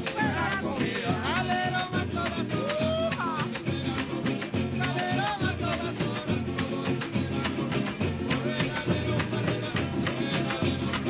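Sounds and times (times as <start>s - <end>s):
person singing: 0.0s - 11.0s
strummed string group music: 0.0s - 11.0s.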